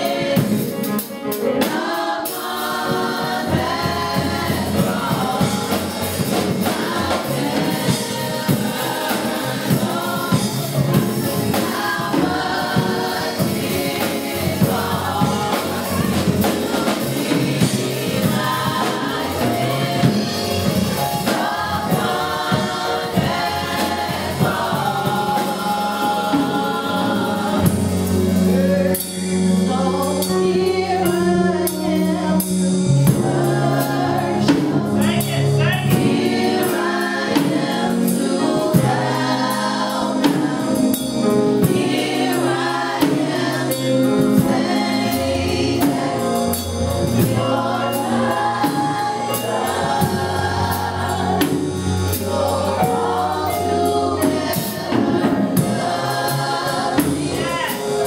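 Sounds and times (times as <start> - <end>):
live band with steady beat: 0.0 - 58.0
women singing gospel: 0.0 - 58.0.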